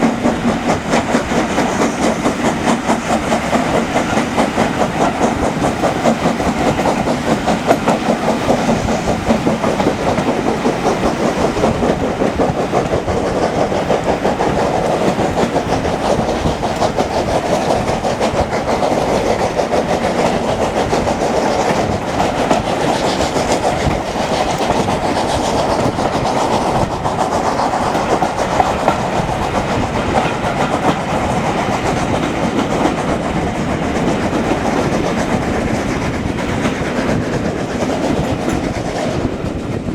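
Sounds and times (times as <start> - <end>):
train running on track: 0.0 - 39.9.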